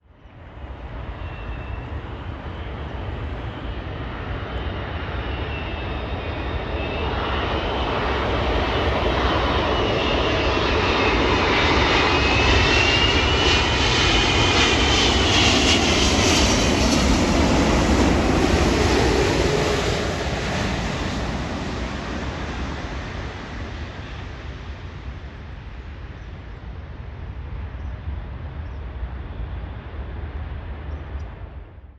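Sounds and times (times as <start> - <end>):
jet engine whine: 0.0 - 31.9
jet airliner flying past: 0.1 - 31.9.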